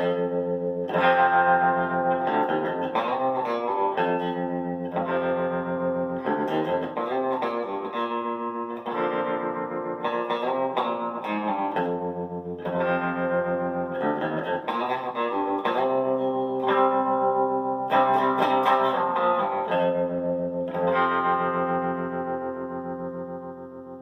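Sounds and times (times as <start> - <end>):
clean electric guitar chords: 0.0 - 24.0.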